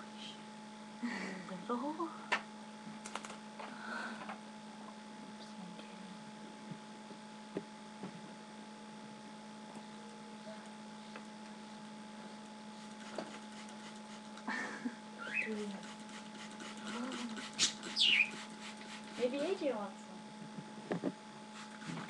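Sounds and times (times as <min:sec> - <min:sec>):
electrical hum with two tones: 0:00.0 - 0:22.0.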